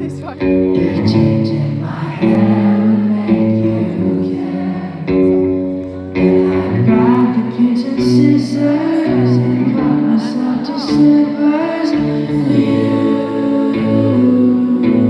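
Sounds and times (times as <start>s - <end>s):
live pop song with guitar: 0.0s - 15.0s.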